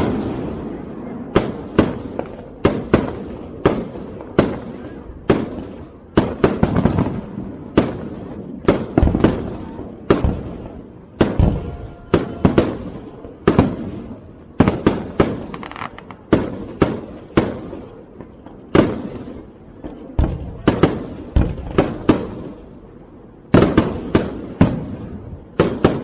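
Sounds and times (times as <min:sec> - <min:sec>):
fireworks booming: 0:00.0 - 0:26.0.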